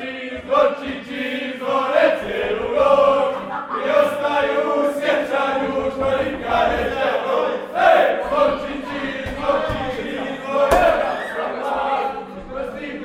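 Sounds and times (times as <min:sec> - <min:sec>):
group singing in unison: 0:00.0 - 0:13.0.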